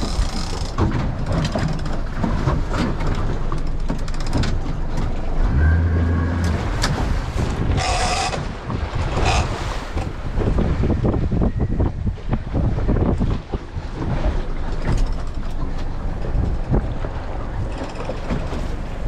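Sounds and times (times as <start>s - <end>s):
low engine hum: 0.0s - 19.0s
water rushing along hull: 0.0s - 19.0s
wind buffeting microphone: 0.0s - 19.0s.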